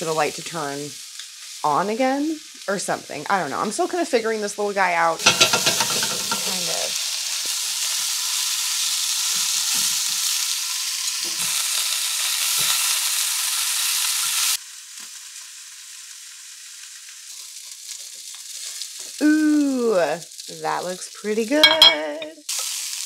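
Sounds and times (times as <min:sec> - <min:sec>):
food frying with sizzle: 0:00.0 - 0:23.0.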